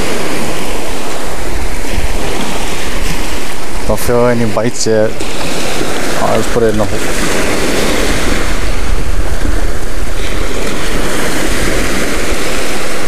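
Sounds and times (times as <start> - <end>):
waves washing on shore: 0.0 - 13.0
wind on microphone: 0.0 - 13.0.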